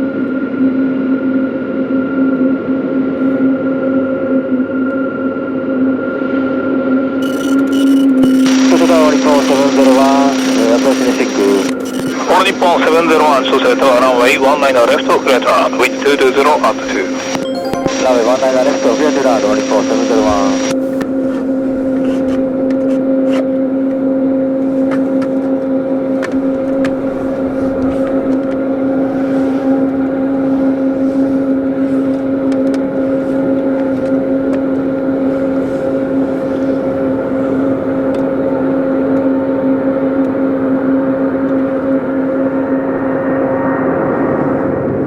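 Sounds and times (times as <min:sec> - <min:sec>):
jet engines droning: 0:07.2 - 0:45.0.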